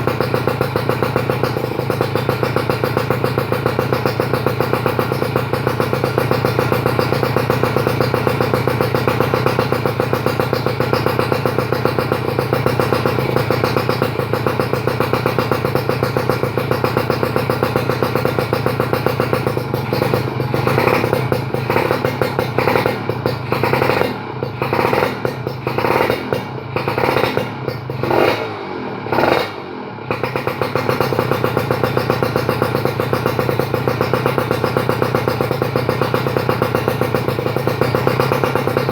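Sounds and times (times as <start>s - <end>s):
two-stroke engine idling and revving: 0.0s - 38.9s.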